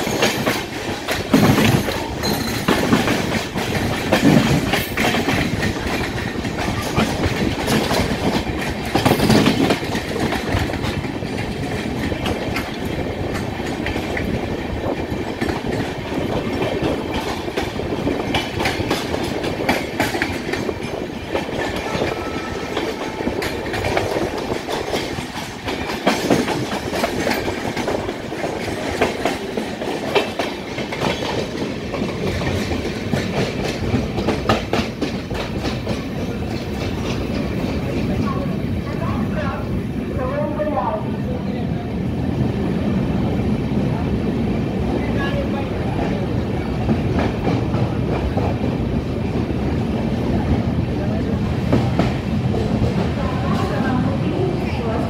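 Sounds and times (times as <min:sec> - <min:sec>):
train wheels clattering over rail joints: 0:00.0 - 0:38.6, 0:45.9 - 0:55.0
passing train: 0:00.0 - 0:55.0.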